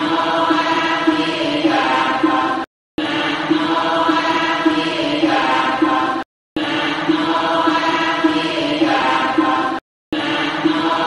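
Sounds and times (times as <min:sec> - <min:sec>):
voices chanting in unison: 0:00.0 - 0:11.0.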